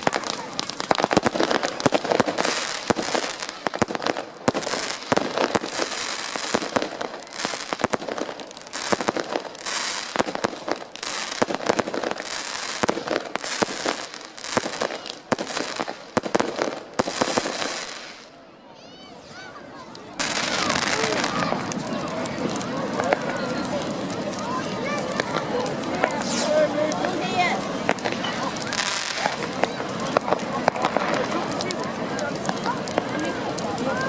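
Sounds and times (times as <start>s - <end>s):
fireworks hissing: 0.0s - 18.4s, 20.2s - 34.0s
fireworks bangs and crackling: 0.0s - 18.5s, 19.2s - 34.0s.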